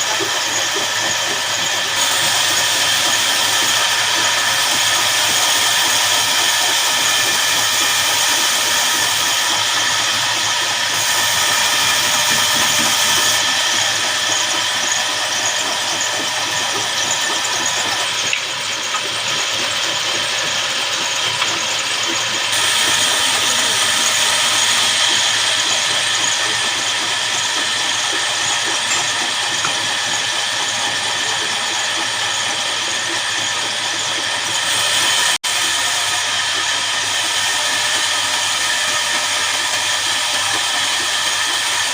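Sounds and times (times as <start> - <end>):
band saw cutting log: 0.0 - 41.9.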